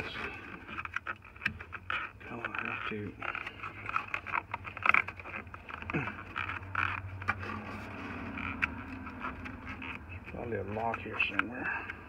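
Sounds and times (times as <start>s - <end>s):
plastic clicking and scraping: 0.0s - 12.0s.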